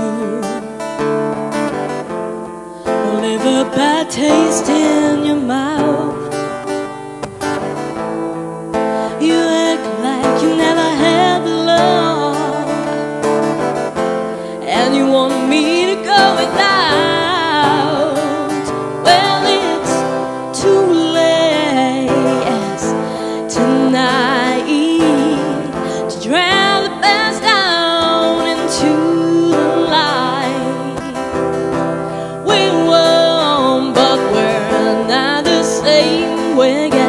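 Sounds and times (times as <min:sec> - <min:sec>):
woman singing a slow ballad: 0:00.0 - 0:02.2, 0:02.8 - 0:37.0
acoustic guitar: 0:00.0 - 0:37.0.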